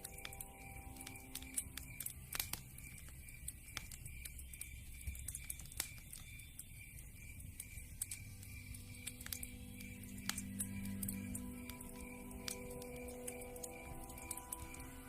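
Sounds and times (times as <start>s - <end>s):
faint music: 0.0s - 15.0s
wood fire crackling and popping: 0.0s - 15.0s.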